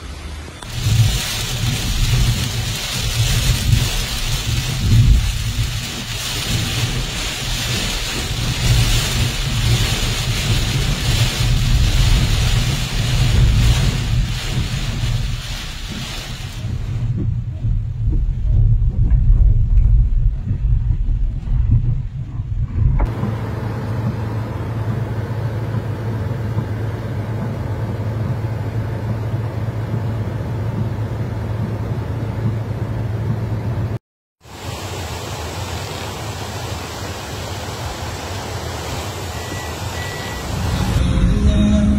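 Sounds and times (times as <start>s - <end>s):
rain hissing on car roof: 0.6s - 22.2s, 23.0s - 41.0s
car rumbling: 0.6s - 34.0s, 40.0s - 41.9s.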